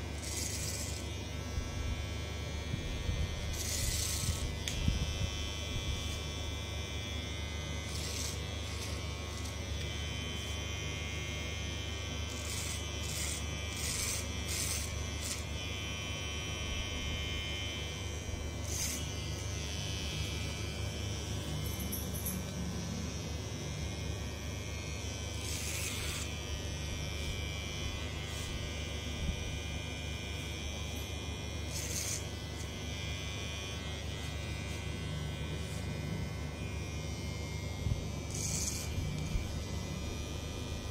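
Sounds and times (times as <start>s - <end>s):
clipper cutting hair: 0.0s - 40.9s
hair clipper buzzing: 0.0s - 40.9s.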